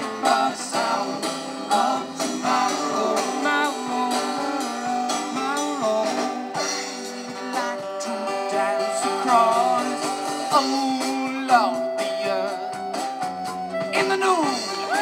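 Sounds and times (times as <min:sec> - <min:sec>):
person singing: 0:00.0 - 0:13.1
guitars playing: 0:00.0 - 0:15.0.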